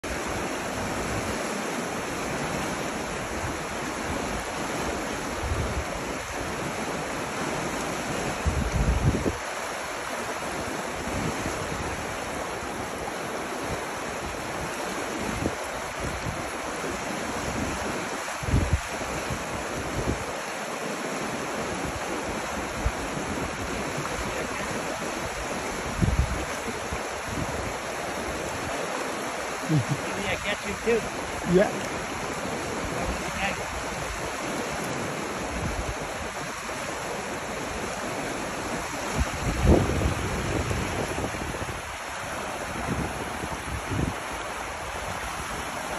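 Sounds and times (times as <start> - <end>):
river rapids rushing: 0.0 - 45.9
wind gusts on microphone: 0.0 - 45.9.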